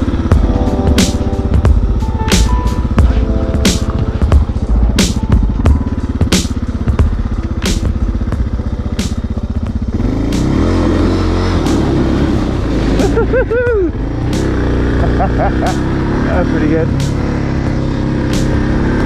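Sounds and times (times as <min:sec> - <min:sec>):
music with steady beat: 0:00.0 - 0:11.0, 0:12.9 - 0:16.1, 0:16.9 - 0:17.3, 0:18.0 - 0:19.0
motorcycle engine running: 0:00.0 - 0:19.0.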